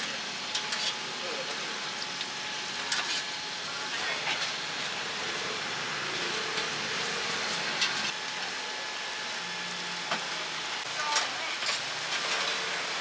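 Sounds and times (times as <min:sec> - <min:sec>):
oil sizzling on a griddle: 0:00.0 - 0:13.0.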